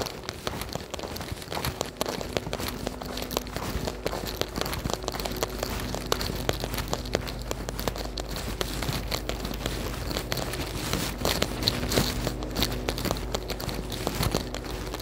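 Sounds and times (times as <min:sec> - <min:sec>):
faint low hum: 0:00.0 - 0:15.0
footsteps on slushy pavement: 0:00.0 - 0:15.0
rain patter: 0:00.0 - 0:15.0.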